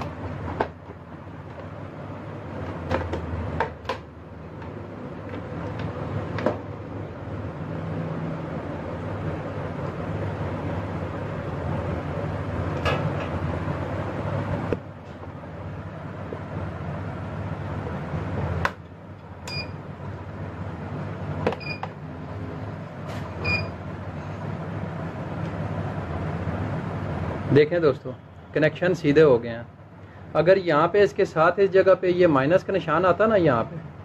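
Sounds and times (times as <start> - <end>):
low hum and hiss: 0.0 - 34.0.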